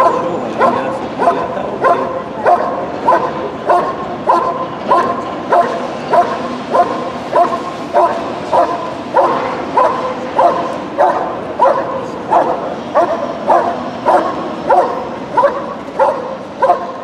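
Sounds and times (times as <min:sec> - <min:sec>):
dog barking: 0:00.0 - 0:17.0.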